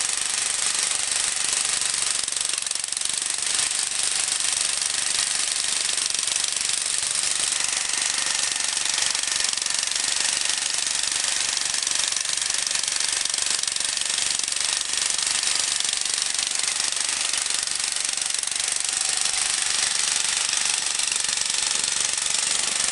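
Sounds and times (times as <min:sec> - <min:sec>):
small petrol engine running: 0:00.0 - 0:22.9.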